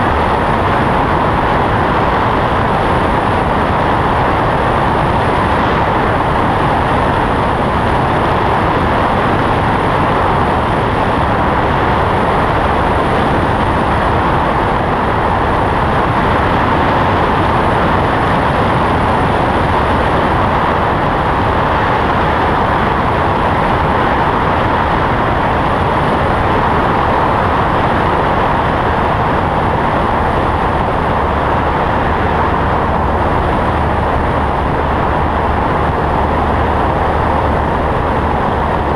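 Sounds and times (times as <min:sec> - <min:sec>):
propeller plane engine droning: 0:00.0 - 0:38.9
rushing airflow: 0:00.0 - 0:38.9.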